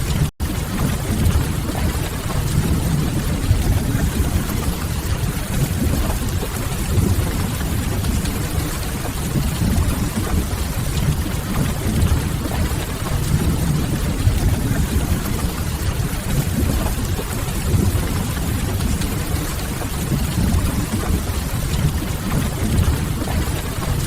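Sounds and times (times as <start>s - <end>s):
rain hiss: 0.5s - 24.0s.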